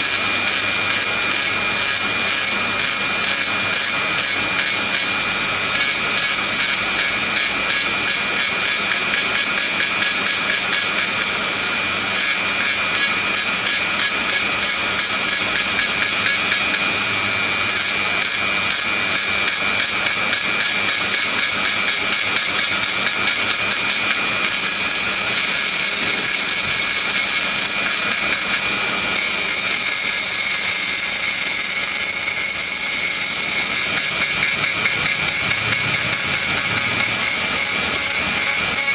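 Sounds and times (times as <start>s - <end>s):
rotary tool engraving glass: 0.0s - 38.9s.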